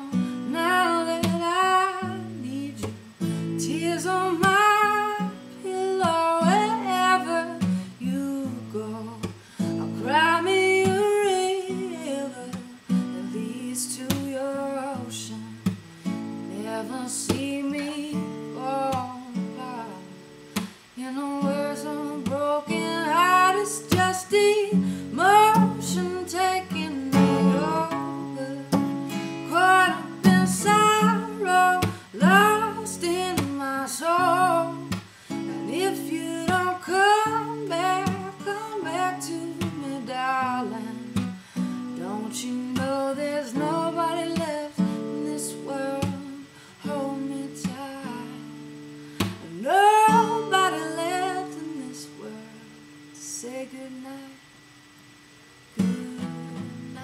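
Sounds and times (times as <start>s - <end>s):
woman singing: 0.0s - 54.6s, 55.8s - 57.0s
strummed acoustic guitar: 0.0s - 57.0s.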